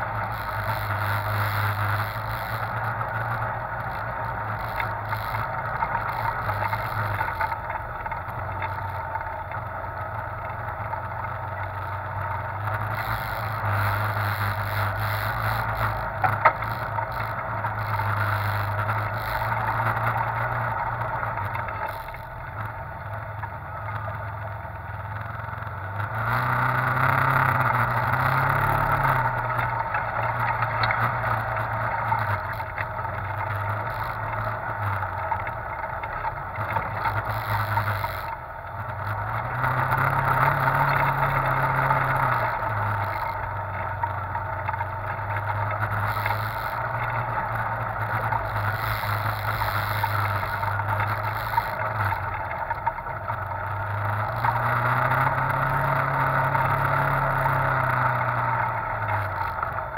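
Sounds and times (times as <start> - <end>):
utility vehicle engine revving: 0.0 - 59.9.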